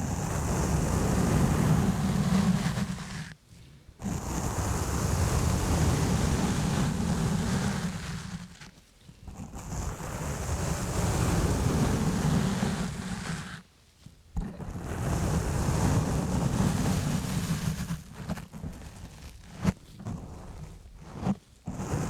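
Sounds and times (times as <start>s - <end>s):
gloves rubbing on microphone: 0.0s - 22.0s.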